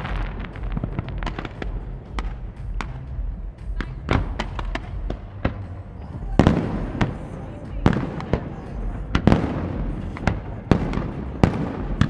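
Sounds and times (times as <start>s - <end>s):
fireworks cracking and banging: 0.0s - 12.0s.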